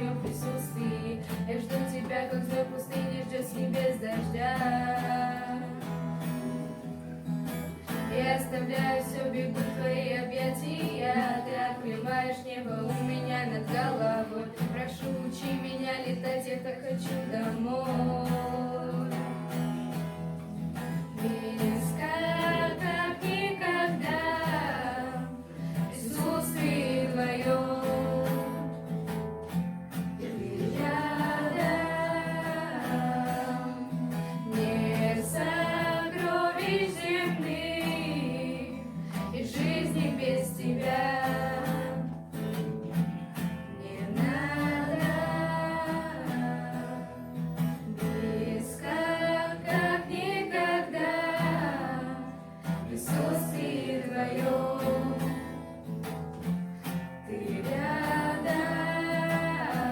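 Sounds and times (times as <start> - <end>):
person singing worship song: 0.0 - 6.2, 7.8 - 19.6, 20.7 - 29.0, 30.2 - 42.2, 43.6 - 56.0, 57.2 - 59.9
acoustic guitar: 0.0 - 59.9.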